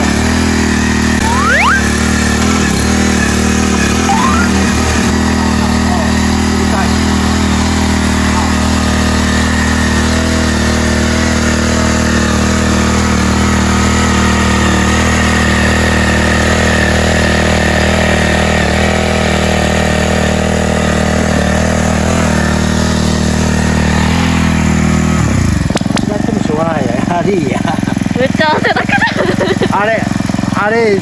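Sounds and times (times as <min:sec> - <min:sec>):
cultivator engine running: 0:00.0 - 0:31.0
tines churning soil: 0:00.0 - 0:31.0.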